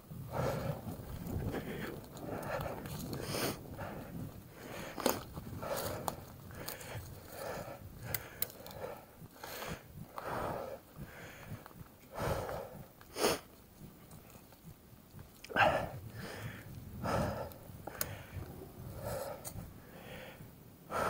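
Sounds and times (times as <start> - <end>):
person breathing hard: 0.0 - 14.8, 15.4 - 21.0.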